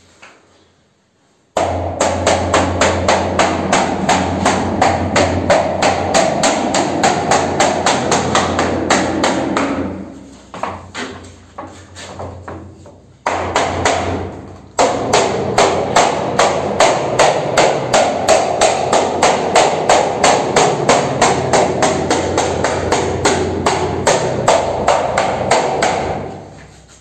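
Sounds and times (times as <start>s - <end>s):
hammer blows on door trim: 1.6s - 26.6s.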